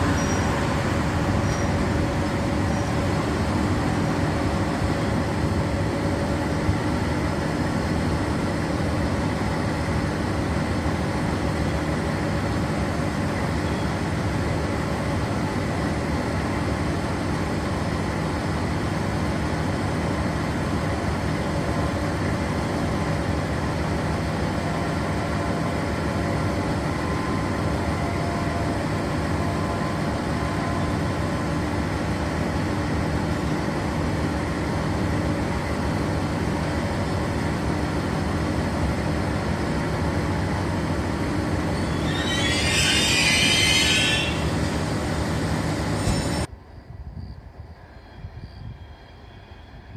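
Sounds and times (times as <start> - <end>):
diesel locomotive idling: 0.0 - 46.6.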